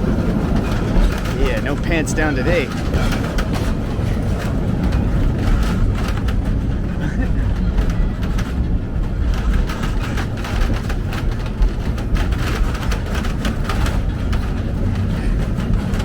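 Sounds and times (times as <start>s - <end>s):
clicks and clacks: 0.0s - 16.0s
train wheels rumbling on track: 0.0s - 16.0s.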